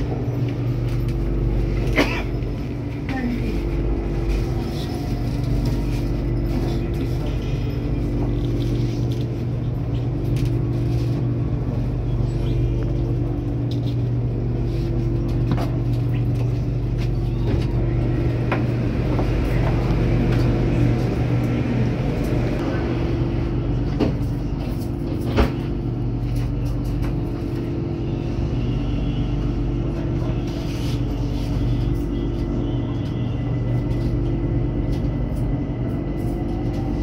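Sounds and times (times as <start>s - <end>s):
train car hum and rumble: 0.0s - 37.0s.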